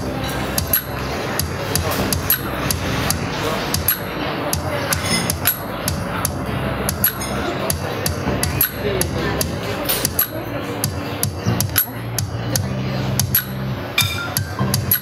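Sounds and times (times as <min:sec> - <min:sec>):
electric keyboard low tones: 0:00.0 - 0:15.0.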